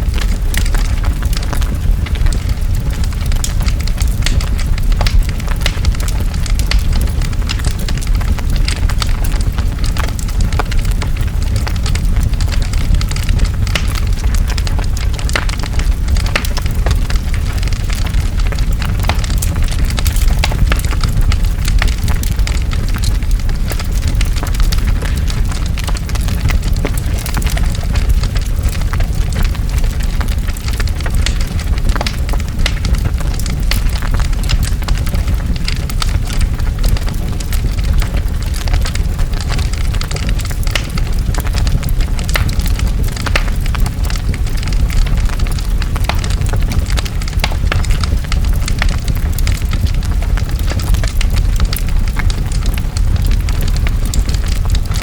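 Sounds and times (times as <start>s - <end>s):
large fire crackling: 0.0s - 55.0s.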